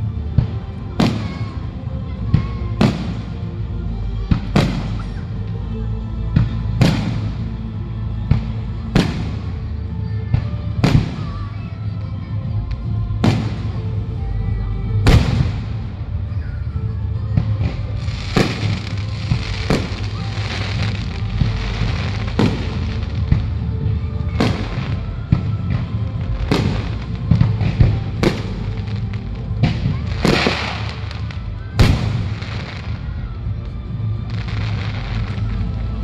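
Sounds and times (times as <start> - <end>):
fireworks bursting: 0.0 - 3.6, 4.2 - 5.5, 6.4 - 7.6, 8.2 - 14.2, 15.0 - 16.6, 17.2 - 36.0
fireworks crackling: 0.0 - 36.0
music from loudspeakers: 0.0 - 36.0.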